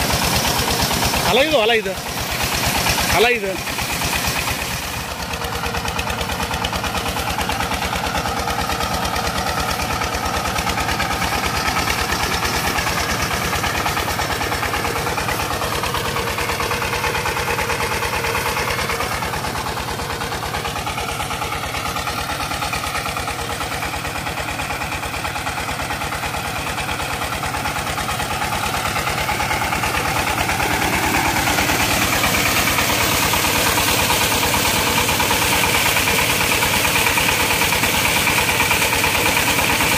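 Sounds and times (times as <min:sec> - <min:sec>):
small diesel engine knocking: 0:00.0 - 0:39.9
water gushing from pipe: 0:00.0 - 0:39.9.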